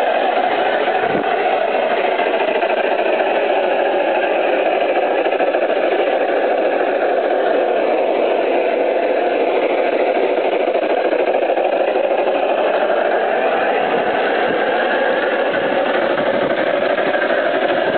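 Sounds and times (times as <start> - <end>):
model train motor drone: 0.0 - 17.9
model train wheels rolling: 0.0 - 17.9.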